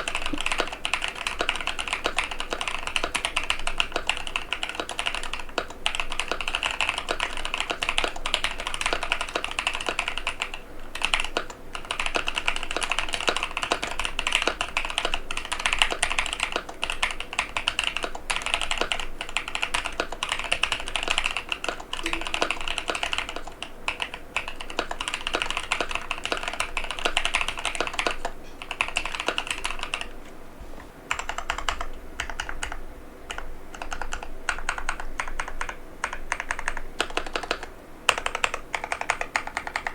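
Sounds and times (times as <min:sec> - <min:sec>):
mechanical keyboard typing: 0:00.0 - 0:30.2, 0:31.1 - 0:39.9.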